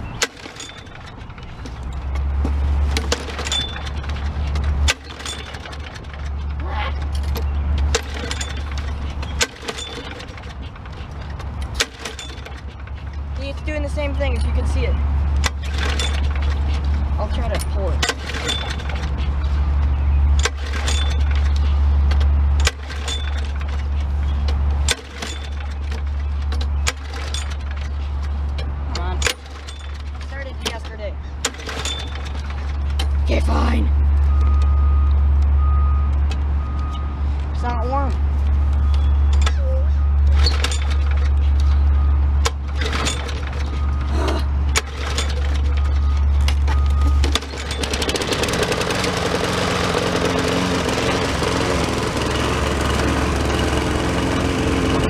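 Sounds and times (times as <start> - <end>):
lawn mower engine rumbling: 0.0 - 55.0.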